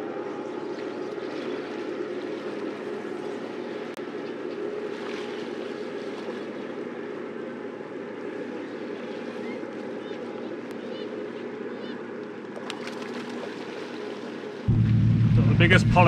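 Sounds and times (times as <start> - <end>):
sea noise at shoreline: 0.0 - 16.0
wind: 0.0 - 16.0.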